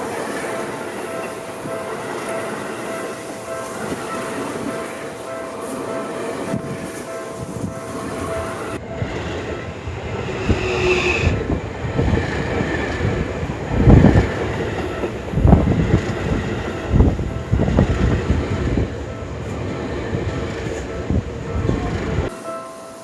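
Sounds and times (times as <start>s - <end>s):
train wheels rumbling on rails: 0.0s - 22.3s.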